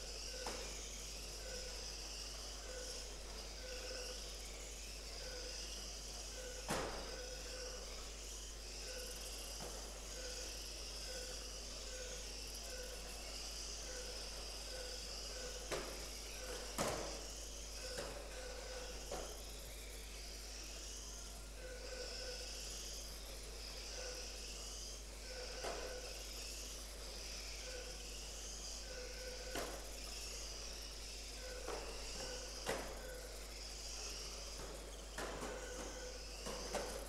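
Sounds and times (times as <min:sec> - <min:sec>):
toy car motors whining: 0:00.1 - 0:37.0.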